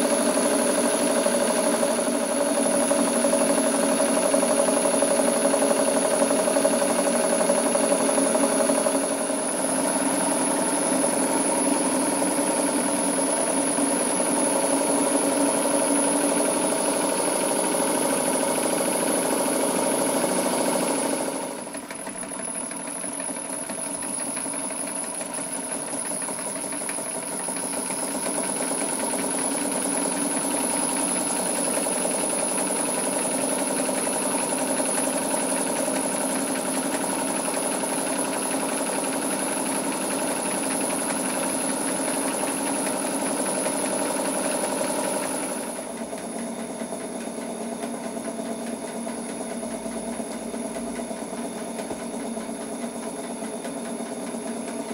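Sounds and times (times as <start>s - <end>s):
model steam engine exhaust beat: 0.0s - 54.9s.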